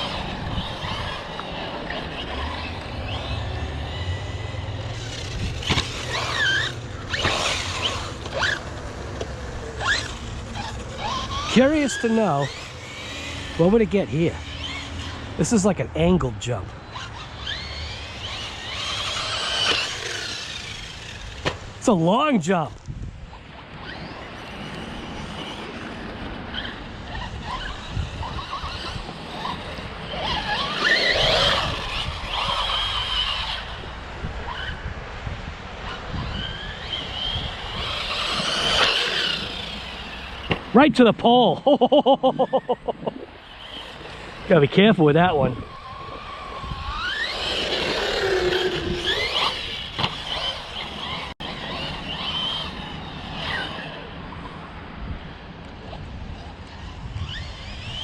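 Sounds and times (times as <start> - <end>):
toy car motor whining: 0.0 - 34.9, 35.8 - 42.8, 43.4 - 54.6, 55.8 - 58.0.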